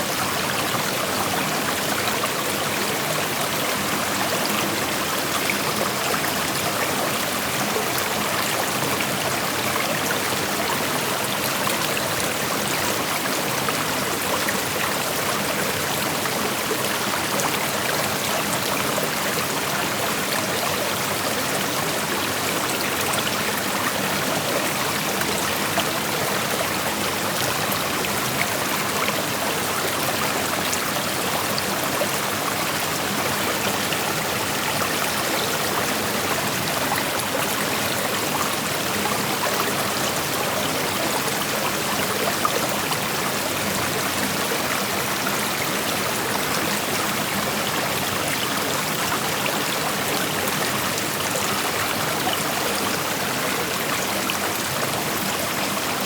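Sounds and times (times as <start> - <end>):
creek water flowing over rocks: 0.0 - 56.0.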